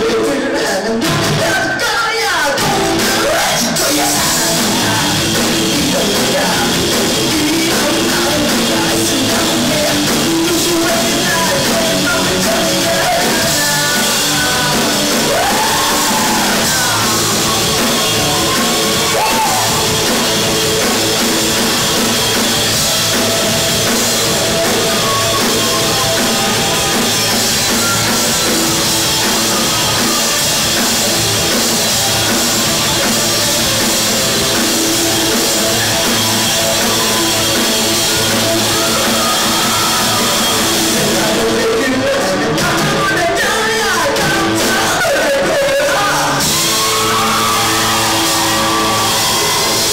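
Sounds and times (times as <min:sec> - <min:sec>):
man singing: 0:00.0 - 0:22.2, 0:24.2 - 0:49.9
rock band playing: 0:00.0 - 0:49.9.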